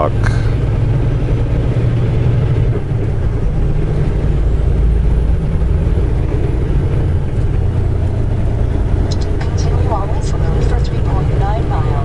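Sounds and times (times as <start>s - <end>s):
road noise: 0.0s - 12.0s
truck engine drone in cab: 0.0s - 12.0s.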